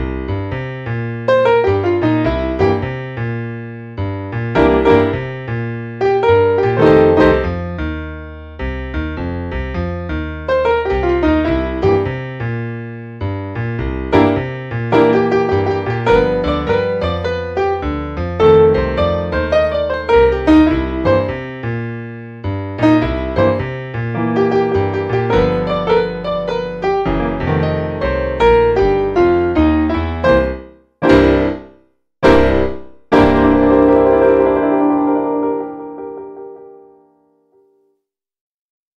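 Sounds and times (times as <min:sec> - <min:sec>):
blues piano playing: 0:00.0 - 0:37.8.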